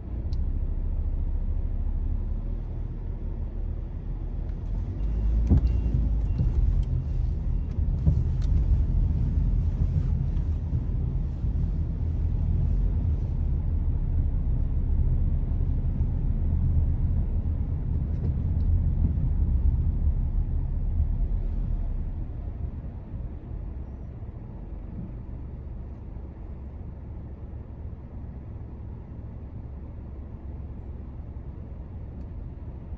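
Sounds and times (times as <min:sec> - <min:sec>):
car engine rumble: 0:00.0 - 0:32.9
road noise: 0:00.0 - 0:32.9.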